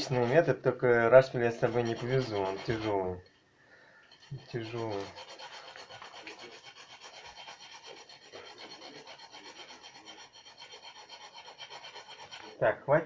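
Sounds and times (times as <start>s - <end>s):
coffee lump scraping on rasp: 0.0s - 0.6s, 1.2s - 3.2s, 4.1s - 12.6s.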